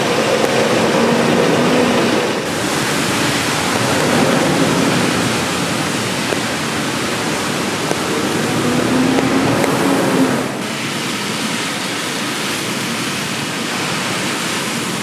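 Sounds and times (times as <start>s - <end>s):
rain falling on street: 0.0s - 15.0s.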